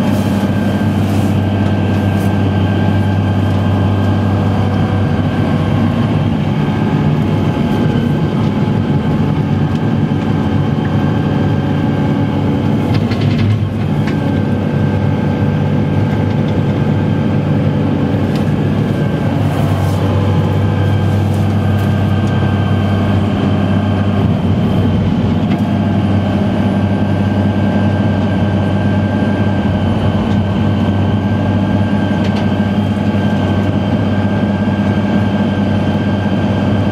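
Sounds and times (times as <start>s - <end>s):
diesel tractor engine drone: 0.0s - 36.9s
steady high whine: 0.0s - 36.9s.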